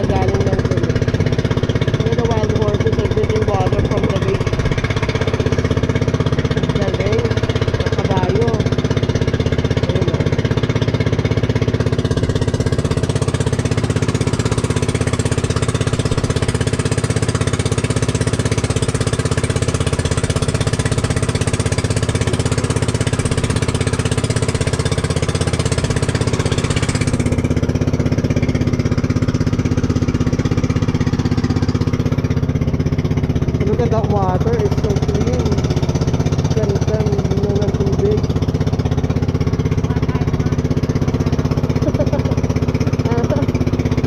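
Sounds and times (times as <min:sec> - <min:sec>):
boat motor running: 0:00.0 - 0:44.0.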